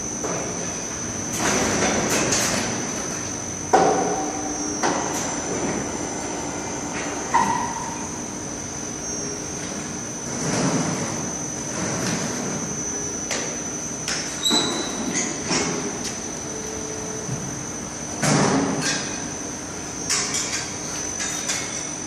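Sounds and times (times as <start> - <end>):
industrial machinery whine: 0.0 - 22.0.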